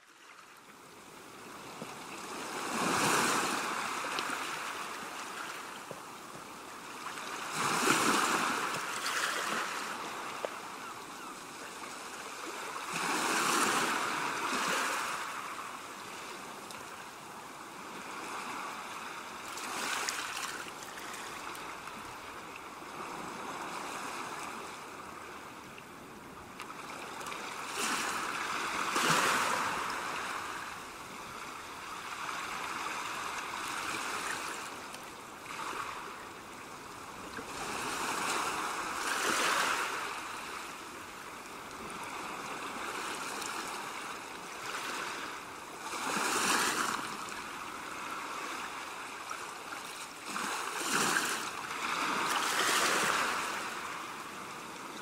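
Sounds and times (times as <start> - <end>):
sea waves washing onto shore: 1.2 - 55.0.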